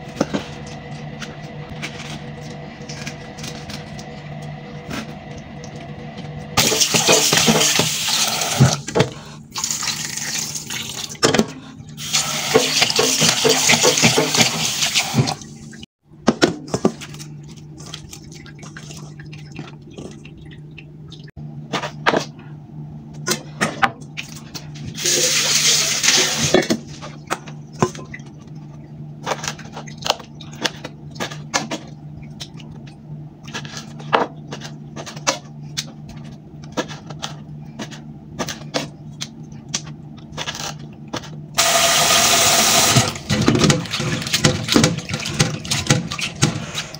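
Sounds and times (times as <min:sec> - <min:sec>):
steady low hum: 0:00.0 - 0:13.3, 0:15.4 - 0:46.9.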